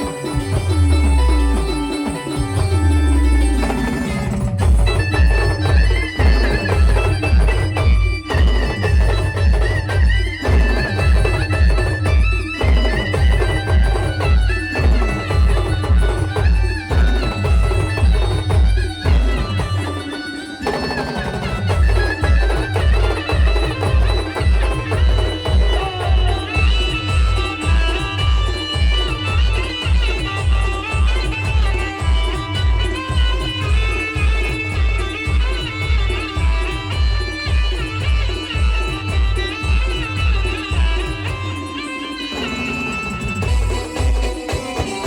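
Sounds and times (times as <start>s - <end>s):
fast bass drum beat: 0.0s - 20.0s, 20.7s - 40.9s
reedy lead melody: 0.0s - 45.0s.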